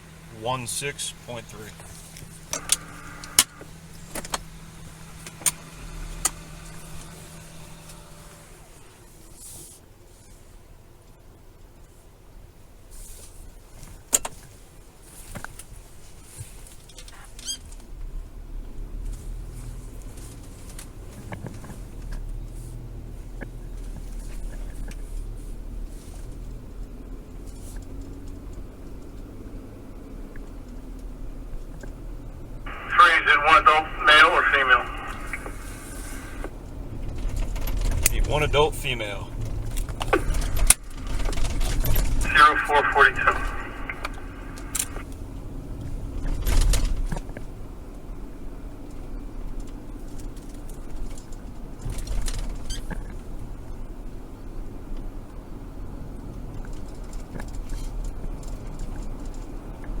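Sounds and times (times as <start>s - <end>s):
car engine and road rumble: 0.0s - 60.0s.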